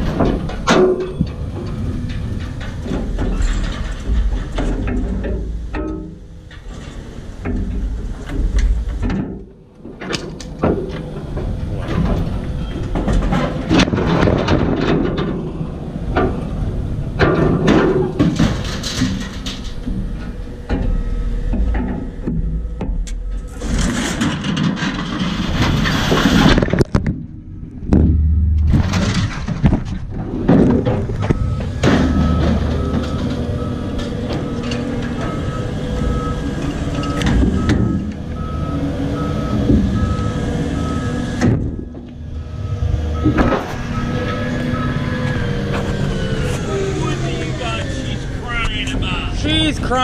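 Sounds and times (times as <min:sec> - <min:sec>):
scrap metal rattling and clanking: 0:00.0 - 0:27.3, 0:27.9 - 0:50.0.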